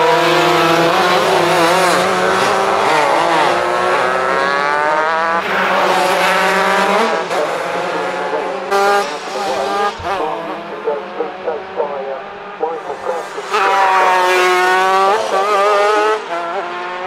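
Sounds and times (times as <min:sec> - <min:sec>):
engine accelerating: 0:00.0 - 0:17.0
two-stroke kart engines racing: 0:00.0 - 0:17.0.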